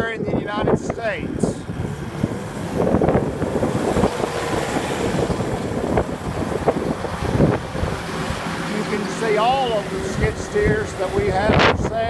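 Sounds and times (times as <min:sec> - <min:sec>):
diesel engine running: 0:00.0 - 0:12.0
wind buffeting microphone: 0:00.0 - 0:12.0.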